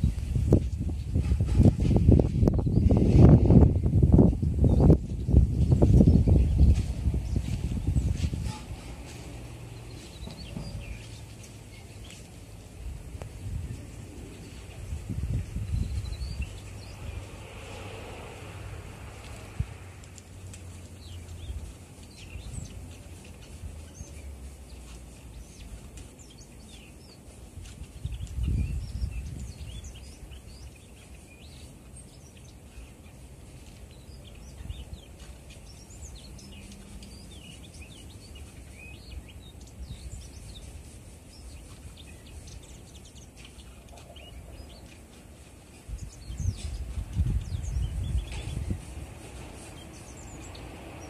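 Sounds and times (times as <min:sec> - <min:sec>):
bird twittering song: 0:00.0 - 0:12.4, 0:13.2 - 0:18.3, 0:19.2 - 0:51.0
wind rumbling on microphone: 0:00.0 - 0:51.0.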